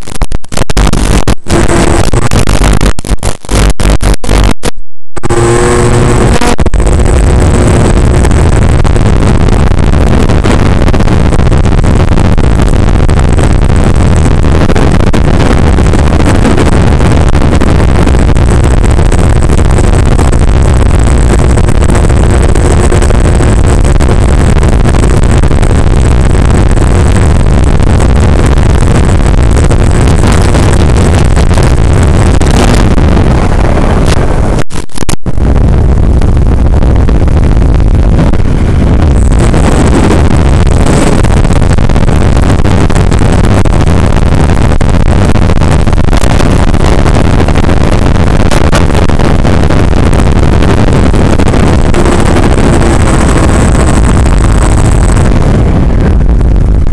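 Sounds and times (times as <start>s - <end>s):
wind rush: 5.3s - 56.9s.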